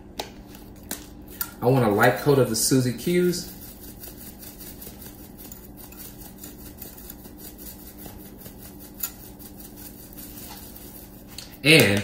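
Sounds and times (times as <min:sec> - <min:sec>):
low steady hum: 0:00.0 - 0:12.0
seasoning shaker rattling: 0:01.5 - 0:11.7.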